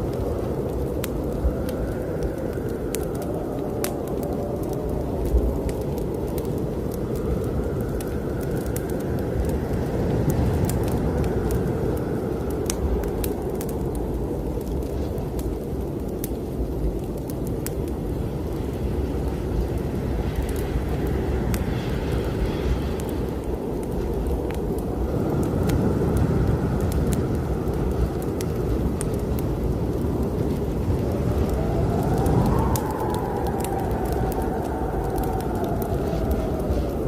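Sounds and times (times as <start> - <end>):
whistling wind howl: 0.0 - 37.0
wind blowing in gusts: 0.0 - 37.0
wood fire crackling: 0.0 - 37.0.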